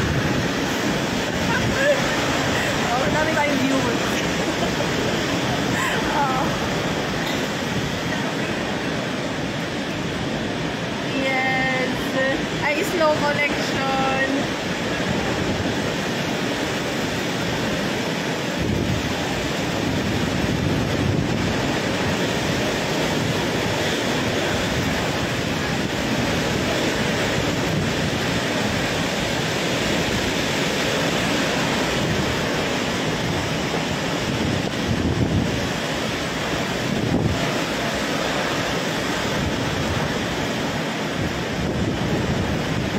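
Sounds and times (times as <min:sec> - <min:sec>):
strong winds: 0:00.0 - 0:42.9
torrential rain: 0:00.0 - 0:42.9
wind gusts buffeting microphone: 0:00.0 - 0:42.9.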